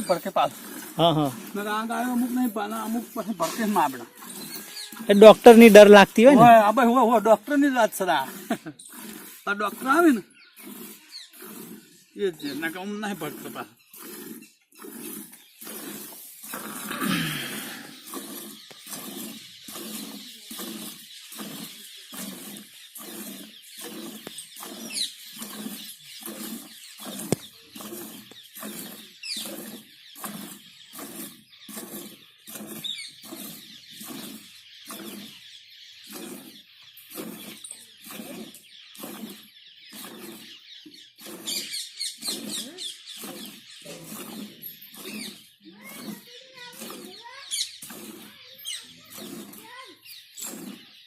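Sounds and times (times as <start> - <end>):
milk squirting into pail: 0.0 - 51.0.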